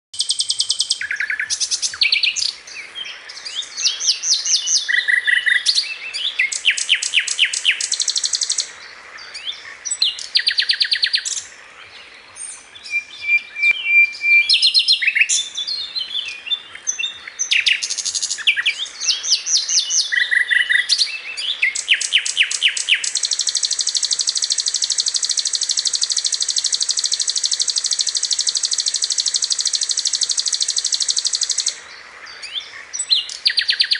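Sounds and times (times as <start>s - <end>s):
birds chirping shrilly: 0.2s - 33.9s.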